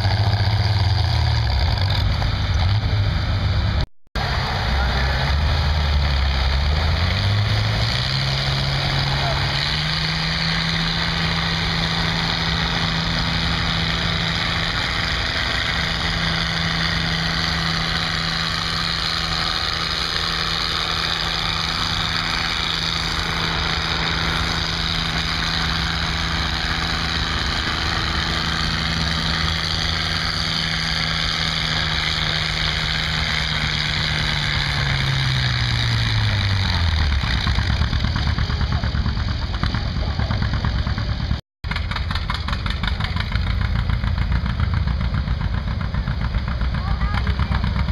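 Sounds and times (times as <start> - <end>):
tractor engine under load: 0.0 - 47.9.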